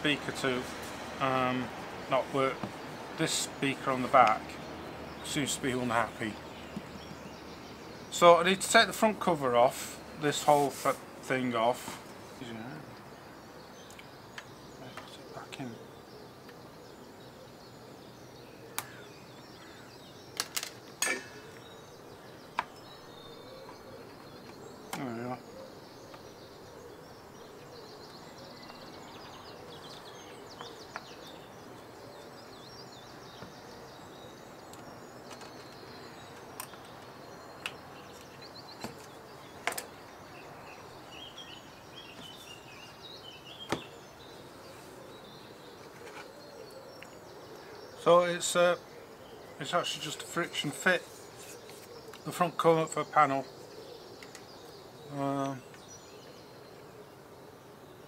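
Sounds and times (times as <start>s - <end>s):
low steady hiss: 0.0s - 58.0s.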